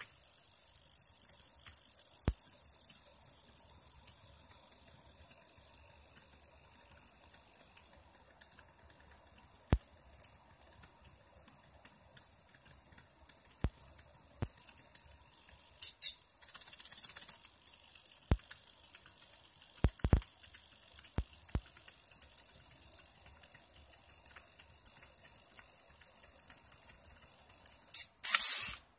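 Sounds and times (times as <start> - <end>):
faint motor whine: 0.0 - 28.9
rapid ticking: 0.0 - 28.9
sharp clicks: 1.2 - 28.9.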